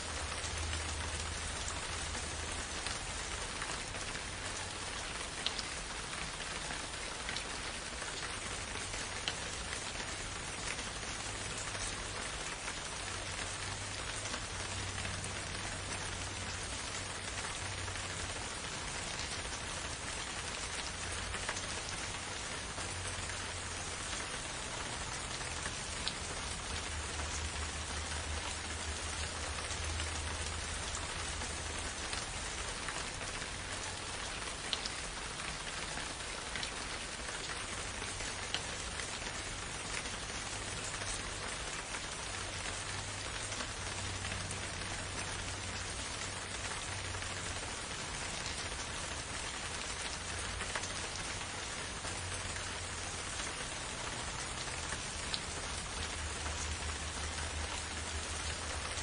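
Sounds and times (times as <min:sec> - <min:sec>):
raindrops ticking on a surface: 0:00.0 - 0:59.0
steady rain falling: 0:00.0 - 0:59.0.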